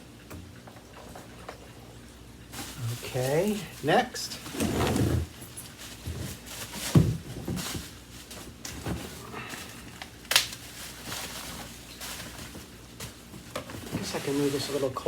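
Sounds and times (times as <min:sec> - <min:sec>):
vacuum parts knocking and rustling: 0:00.2 - 0:15.0.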